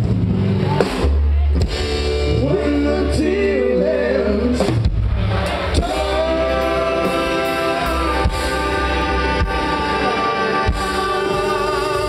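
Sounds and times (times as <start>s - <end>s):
rockabilly band playing: 0.0s - 12.0s.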